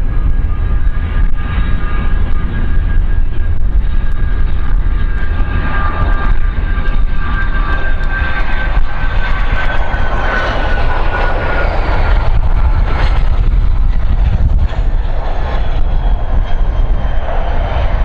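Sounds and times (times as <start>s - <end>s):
aircraft engines whining: 0.0s - 18.0s.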